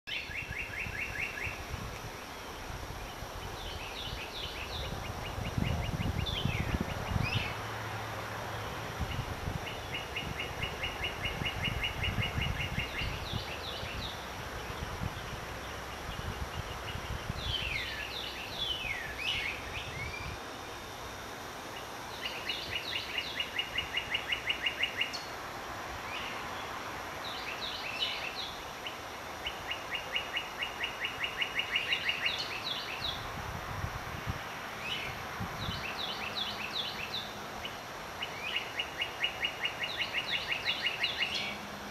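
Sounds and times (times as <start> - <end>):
steady background hiss: 0.1 - 41.9.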